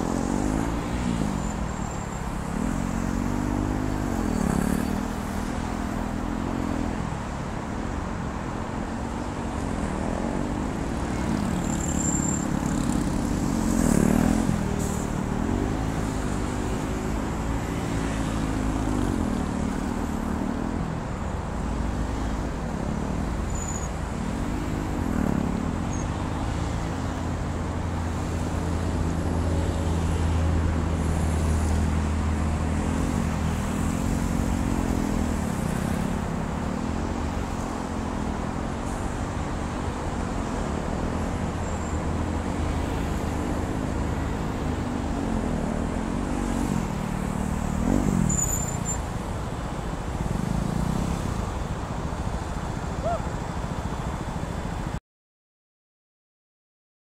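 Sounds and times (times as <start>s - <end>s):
traffic hum: 0.0s - 55.0s.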